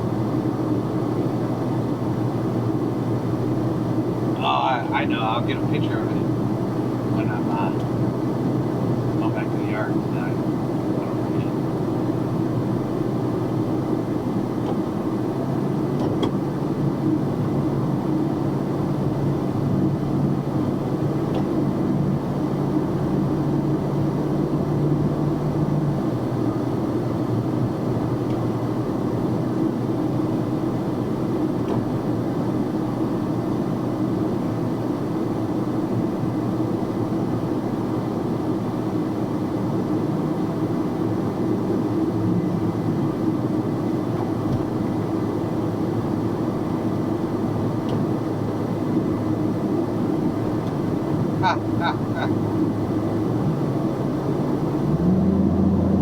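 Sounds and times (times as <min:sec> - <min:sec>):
engine hum: 0:00.0 - 0:56.0
truck engine and road noise: 0:00.0 - 0:56.0.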